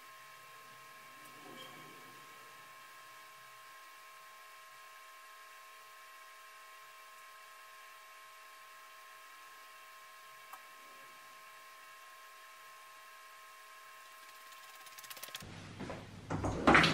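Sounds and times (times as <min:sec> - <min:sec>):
faint electrical hum: 0:00.0 - 0:16.9.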